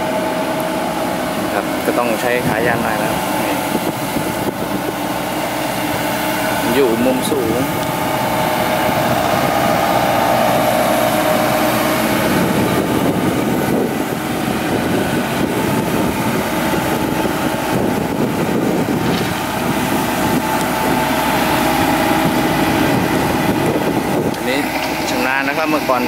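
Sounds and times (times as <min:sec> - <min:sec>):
excavator diesel engine running: 0:00.0 - 0:26.0
steady tone: 0:00.0 - 0:26.0.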